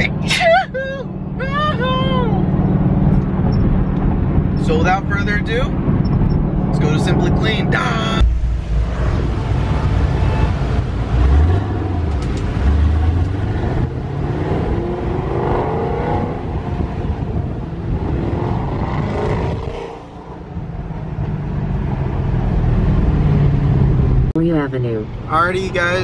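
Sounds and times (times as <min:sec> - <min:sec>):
car engine accelerating: 0:00.8 - 0:25.0.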